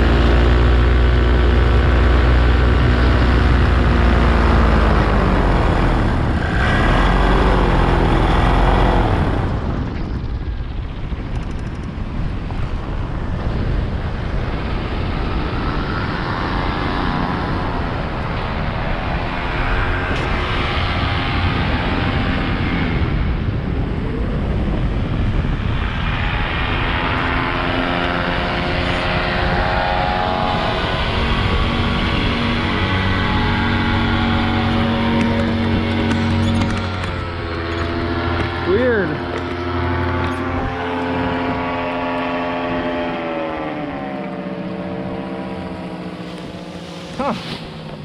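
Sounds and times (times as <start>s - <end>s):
paramotor engine and propeller: 0.0s - 48.0s
wind rush on microphone: 0.0s - 48.0s.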